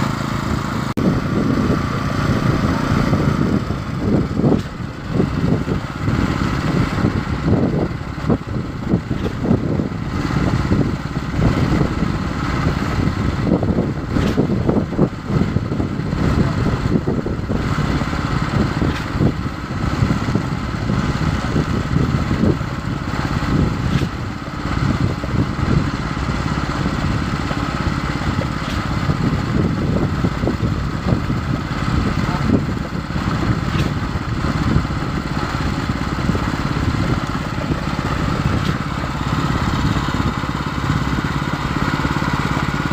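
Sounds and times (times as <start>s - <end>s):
concrete pump engine droning: 0.0s - 42.9s.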